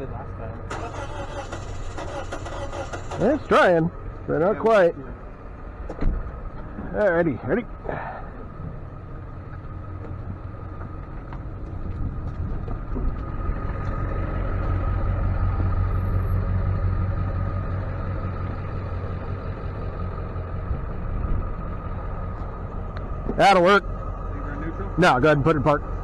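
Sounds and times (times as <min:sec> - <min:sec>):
truck engine low rumble: 0:00.0 - 0:26.0.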